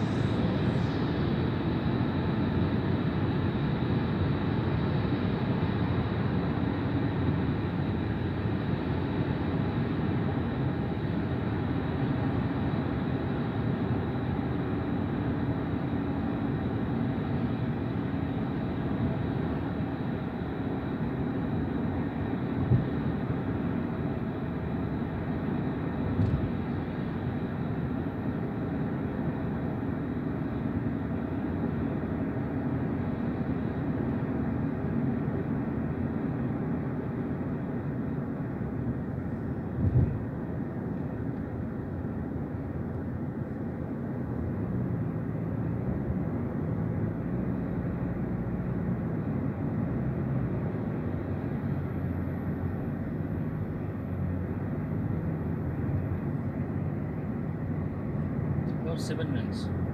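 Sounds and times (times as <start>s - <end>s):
car cabin road and engine noise: 0.0s - 59.9s.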